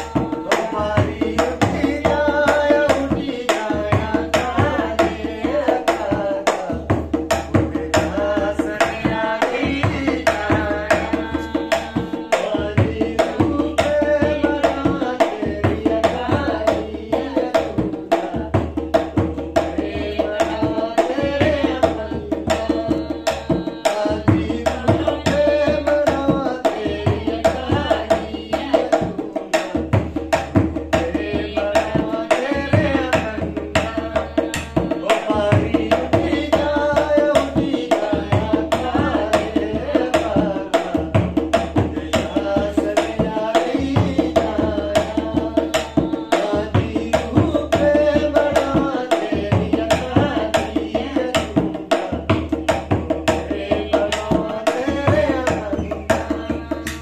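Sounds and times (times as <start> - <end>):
drum beating quick rhythm: 0.0 - 57.0
person singing folk song: 0.0 - 57.0.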